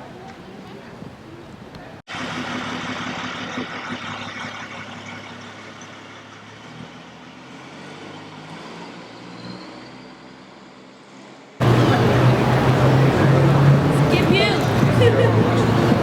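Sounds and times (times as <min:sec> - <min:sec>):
vehicle engine humming: 0:02.1 - 0:16.0.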